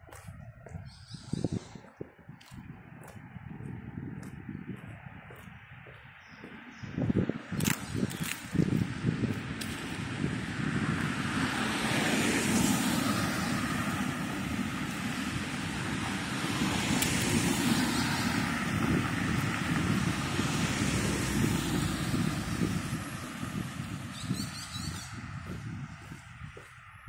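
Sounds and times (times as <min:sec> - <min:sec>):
vehicles passing by: 0:00.0 - 0:27.0.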